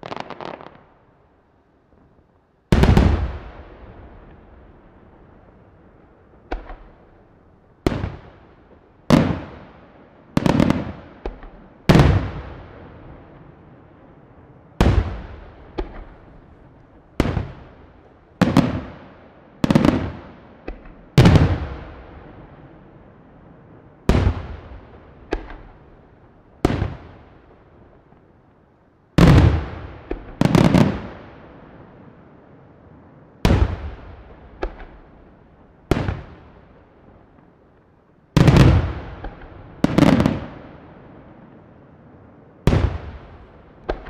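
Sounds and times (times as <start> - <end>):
fireworks bursting with echo: 0.0 - 1.2, 1.9 - 44.0.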